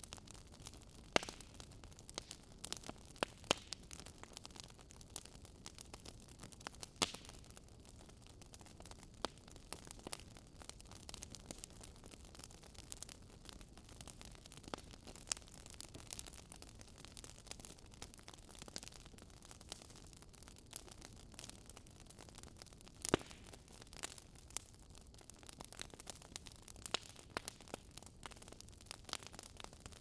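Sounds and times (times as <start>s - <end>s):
wood fire crackling and snapping: 0.0s - 30.0s.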